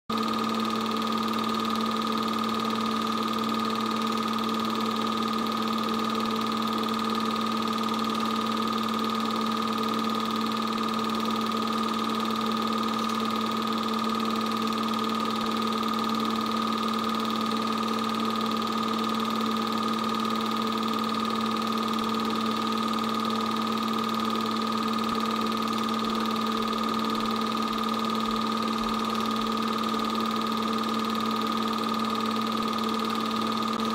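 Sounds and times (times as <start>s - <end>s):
film projector motor and fan hum: 0.1s - 33.9s.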